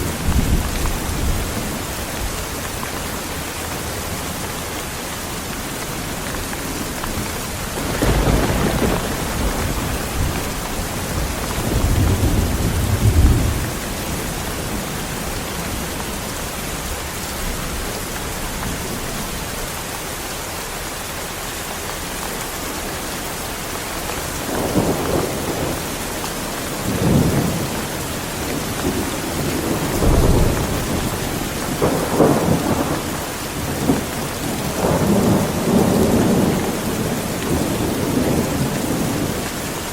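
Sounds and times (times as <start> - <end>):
thunder rumbling: 0.0 - 19.5, 23.8 - 39.9
heavy rain: 0.0 - 39.9.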